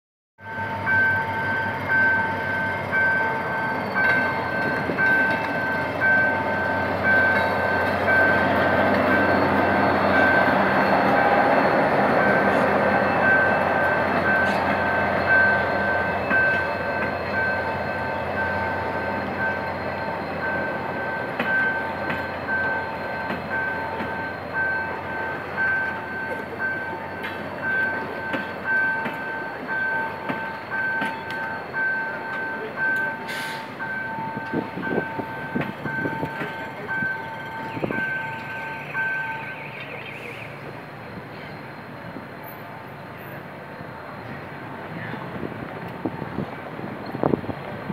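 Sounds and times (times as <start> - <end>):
two-tone crossing signal beeping: 0.4 - 40.7
coaches rolling along rails: 0.4 - 47.9
diesel locomotive engine rumbling: 0.4 - 47.9.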